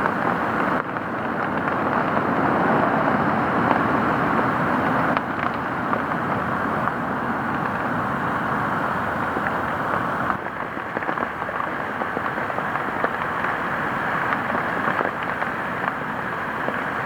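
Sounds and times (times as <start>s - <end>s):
faint rain ticks: 0.0s - 17.0s
storm wind through trees: 0.0s - 17.0s.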